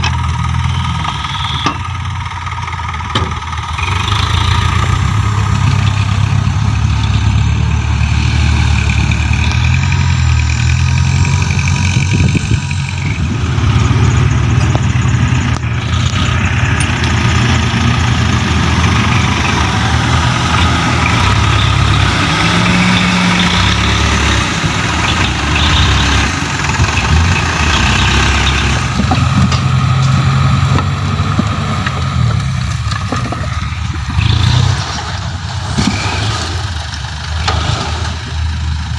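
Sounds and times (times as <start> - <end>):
truck diesel engines rumbling: 0.0 - 38.9.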